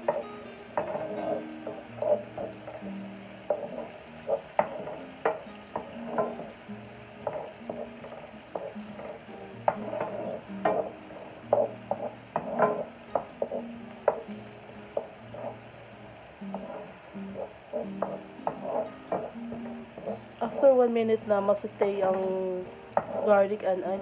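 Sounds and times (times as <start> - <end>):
wooden spatula scraping a pan: 0.0 - 24.0.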